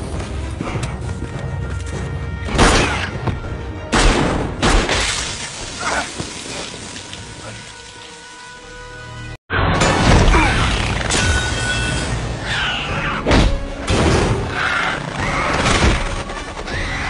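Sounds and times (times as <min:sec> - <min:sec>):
dramatic orchestral score: 0:00.0 - 0:17.0.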